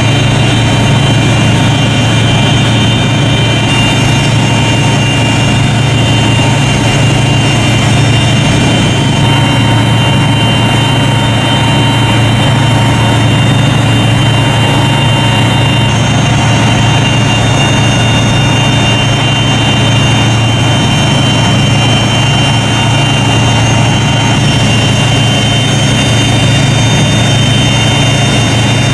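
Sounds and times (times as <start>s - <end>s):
ship engines droning: 0.0s - 28.9s
thin high whines: 0.0s - 28.9s.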